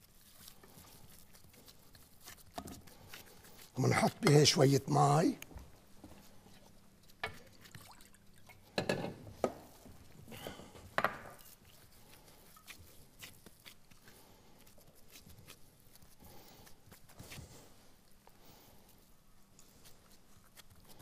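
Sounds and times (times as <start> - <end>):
hands kneading dough in bowl: 0.0 - 21.0.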